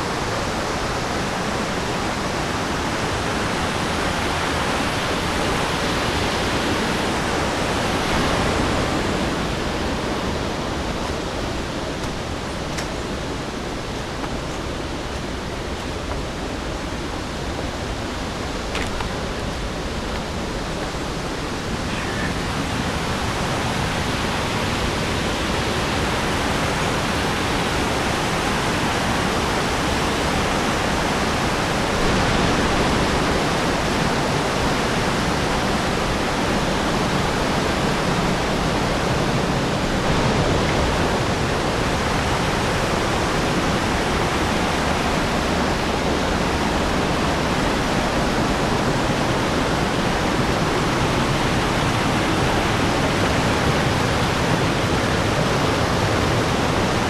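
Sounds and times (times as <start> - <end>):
rushing river water: 0.0 - 57.0.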